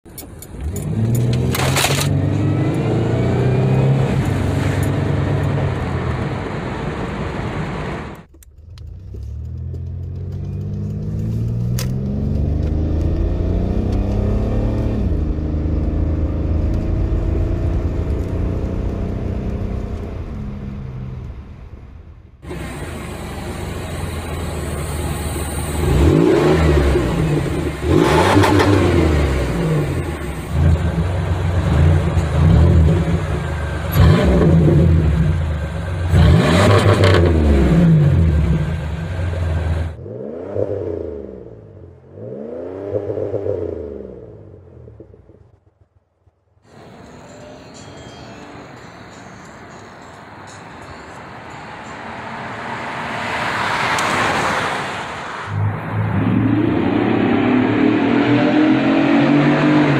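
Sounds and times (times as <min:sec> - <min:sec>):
car engine revving: 0:00.6 - 0:45.7, 0:51.9 - 0:59.9.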